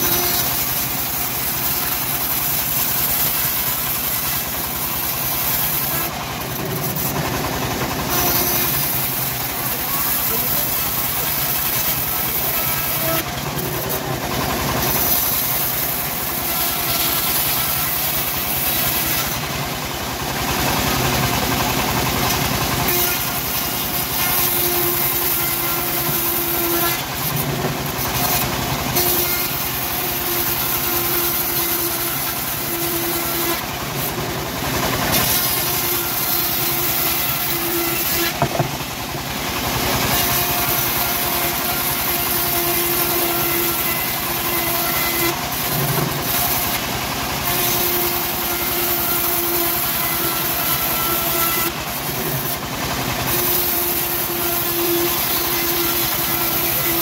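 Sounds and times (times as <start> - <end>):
bandsaw cutting wood: 0.0 - 57.0.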